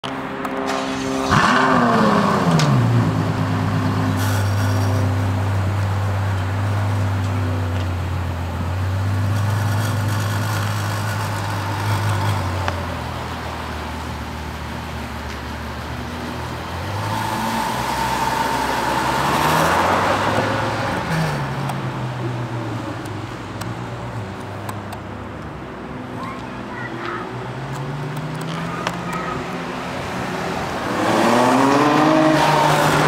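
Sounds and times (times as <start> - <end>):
car engine idling and accelerating: 0.0 - 33.0.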